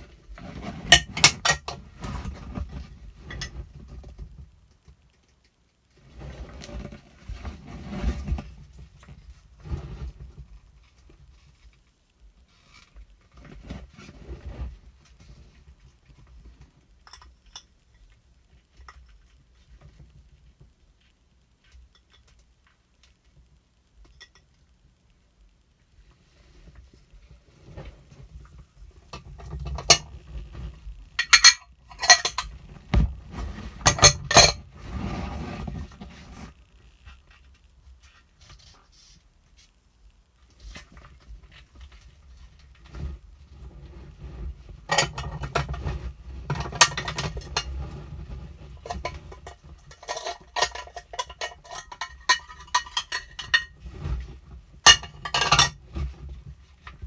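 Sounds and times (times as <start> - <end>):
scraping rustle: 0.0 - 5.1, 5.9 - 17.0, 25.9 - 57.0.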